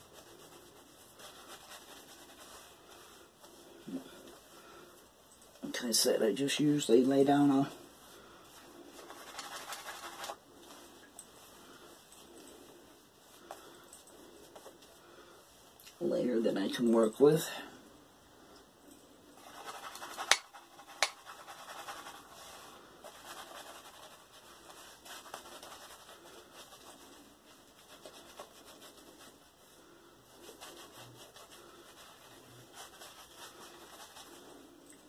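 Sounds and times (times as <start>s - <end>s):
shaving brush rubbing on skin: 0.0s - 4.5s, 6.1s - 15.0s, 19.4s - 35.0s.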